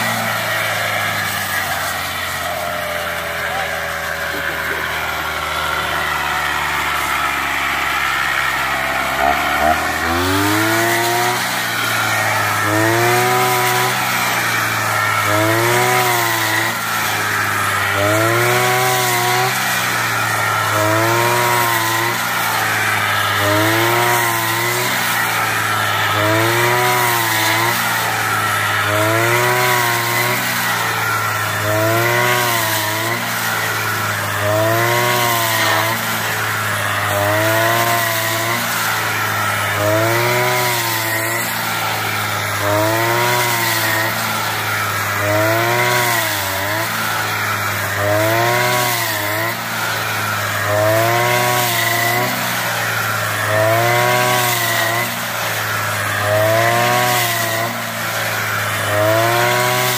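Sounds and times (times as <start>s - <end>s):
brush cutter engine: 0.0s - 59.9s.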